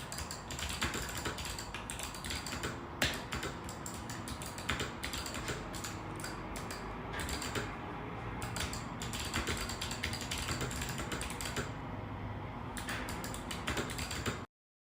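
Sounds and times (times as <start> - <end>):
mechanical keyboard typing: 0.0 - 7.8, 8.4 - 11.8, 12.8 - 14.5.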